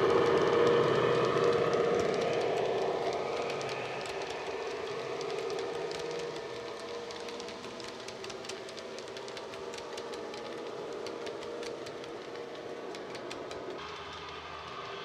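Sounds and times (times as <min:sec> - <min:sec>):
model wagons clicking over track: 0:00.0 - 0:15.0.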